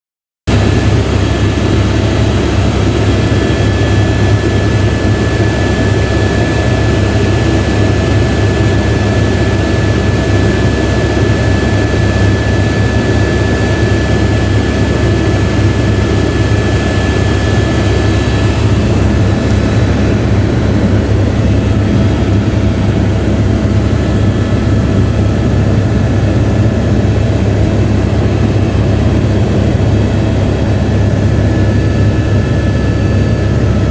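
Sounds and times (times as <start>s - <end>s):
helicopter drone: 0.5s - 33.9s
thin high whine: 0.5s - 33.9s.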